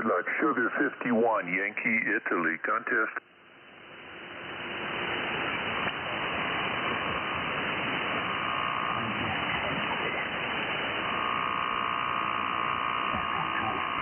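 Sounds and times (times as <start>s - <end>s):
radio band noise hiss: 0.0s - 3.2s, 4.1s - 14.0s.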